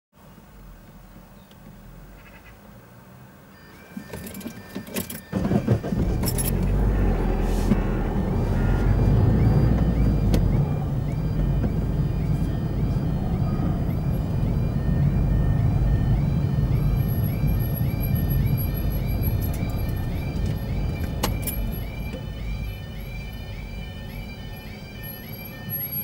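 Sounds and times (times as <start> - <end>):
car engine and tyre noise: 0.2 - 26.0
level crossing alarm warbling: 3.6 - 26.0.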